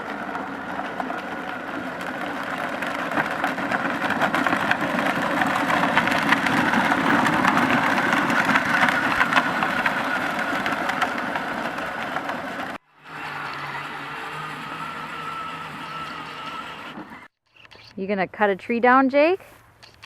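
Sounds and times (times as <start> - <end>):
motor running with clattering rattle: 0.0 - 17.8.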